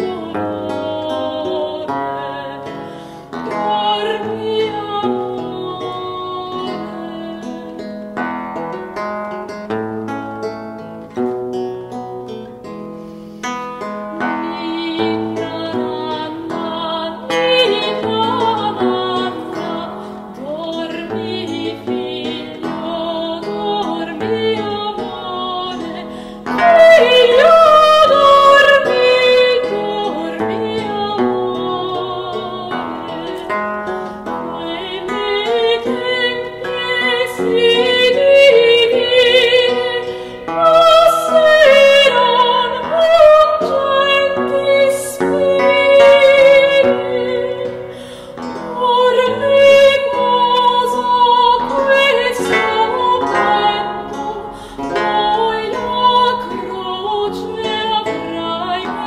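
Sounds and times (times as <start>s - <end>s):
soprano singing: 0.0s - 12.5s, 13.8s - 59.0s
theorbo plucked notes: 0.0s - 59.0s.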